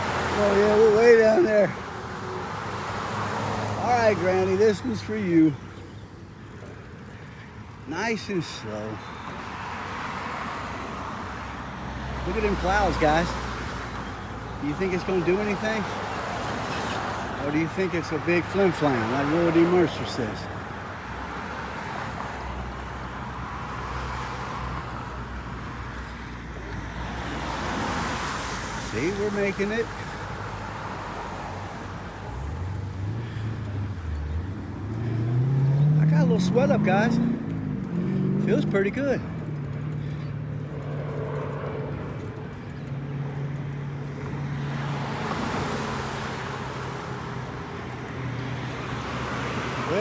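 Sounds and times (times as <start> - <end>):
car passing: 0.0 - 50.0
road traffic rumble: 0.0 - 50.0.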